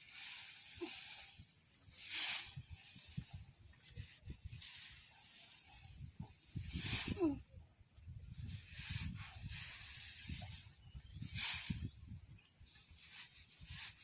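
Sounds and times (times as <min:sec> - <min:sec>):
outdoor hiss and rustling: 0:00.0 - 0:14.0.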